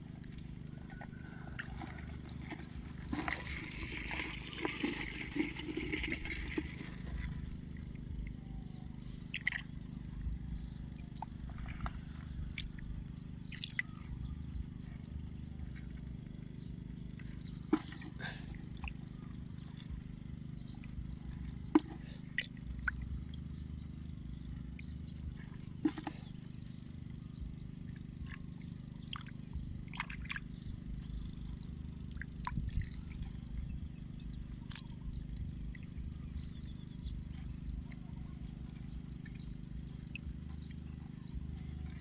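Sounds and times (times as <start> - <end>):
faint high chirp: 0.0 - 42.0
steady low hum: 0.0 - 42.0
water splashing and sloshing: 0.0 - 42.0.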